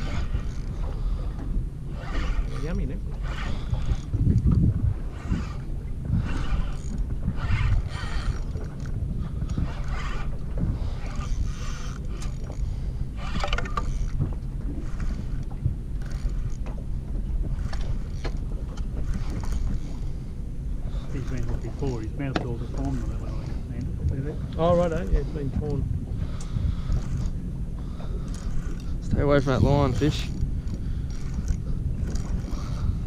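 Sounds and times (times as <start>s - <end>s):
low steady rumble: 0.0s - 33.0s
waves lapping against boat hull: 0.0s - 33.0s.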